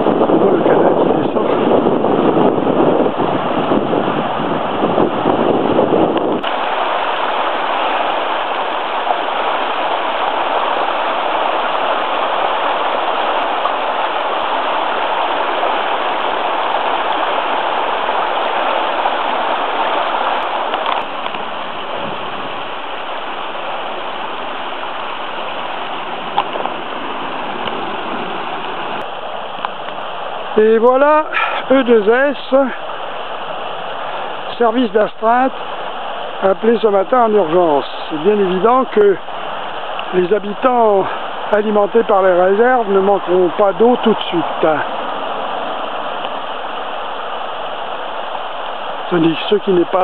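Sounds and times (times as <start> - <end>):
water rushing down a slope: 0.0 - 50.0.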